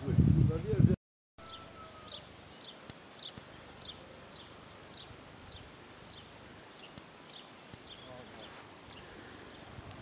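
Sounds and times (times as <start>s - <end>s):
bird calling: 1.4s - 9.7s.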